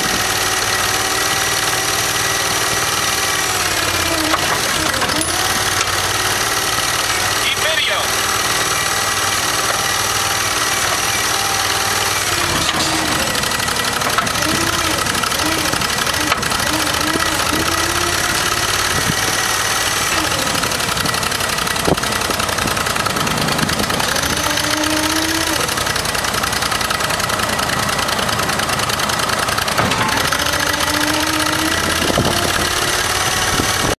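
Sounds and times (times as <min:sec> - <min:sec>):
backhoe engine running: 0:00.0 - 0:34.0
hydraulic whine: 0:00.0 - 0:34.0.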